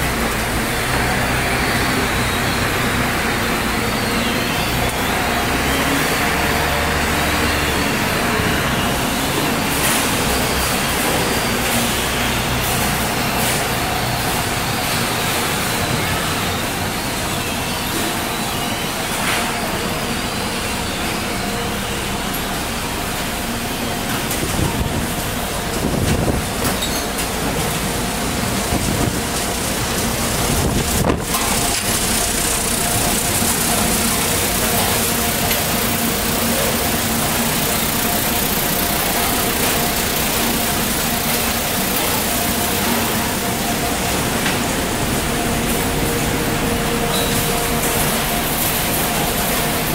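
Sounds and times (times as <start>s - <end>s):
conveyor belts and motors running: 0.0s - 49.9s
machine hum tones: 0.0s - 49.9s.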